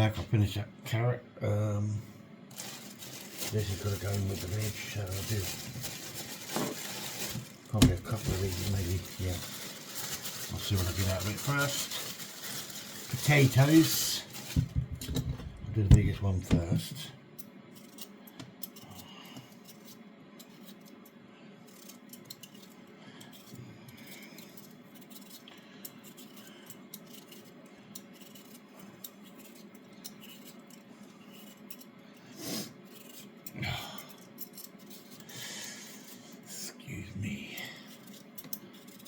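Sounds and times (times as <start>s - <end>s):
scraping a potato: 2.5s - 14.6s, 17.7s - 39.0s.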